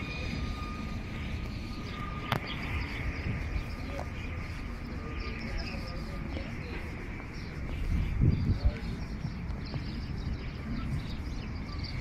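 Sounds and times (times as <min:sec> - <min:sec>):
faint bird chirps: 0:00.0 - 0:12.0
steady low rumble: 0:00.0 - 0:12.0.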